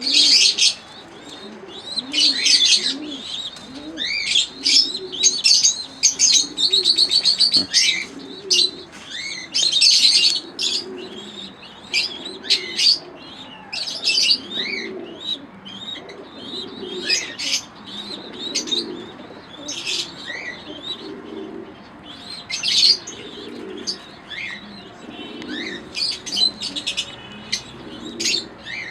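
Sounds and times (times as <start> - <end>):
pigeons cooing: 0.0 - 28.9
small birds chirping: 0.0 - 28.9.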